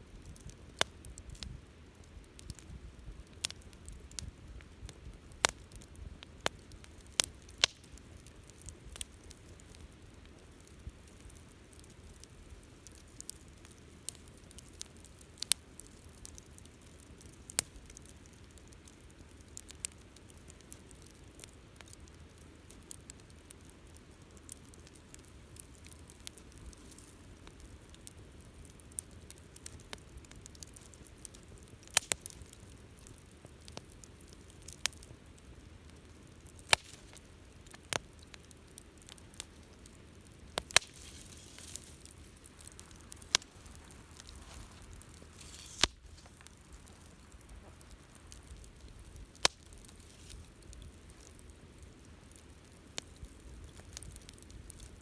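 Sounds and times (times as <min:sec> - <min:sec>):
campfire crackling and popping: 0:00.0 - 0:55.0
low rumble of flame: 0:00.0 - 0:55.0.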